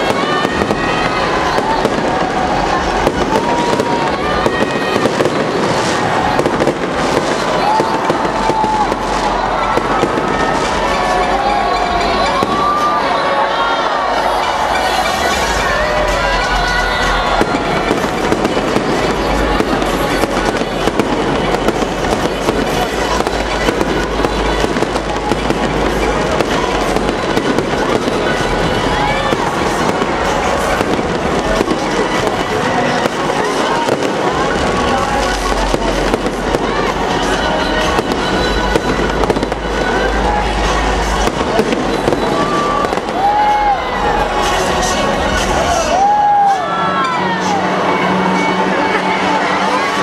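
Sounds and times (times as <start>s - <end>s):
fireworks bursting: 0.0s - 47.1s.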